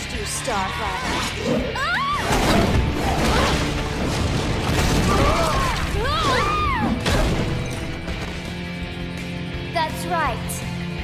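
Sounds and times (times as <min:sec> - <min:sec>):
dramatic score: 0:00.0 - 0:11.0.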